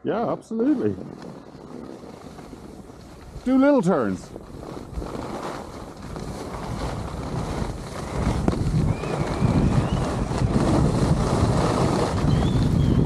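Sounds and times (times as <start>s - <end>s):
wind buffeting microphone: 0.0s - 13.0s
skis scraping on snow: 0.1s - 13.0s.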